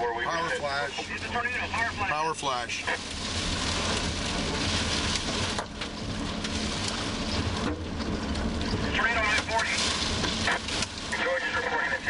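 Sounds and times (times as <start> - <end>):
heavy rain on vehicle: 0.0 - 12.0
tyres and engine rumble: 0.0 - 12.0.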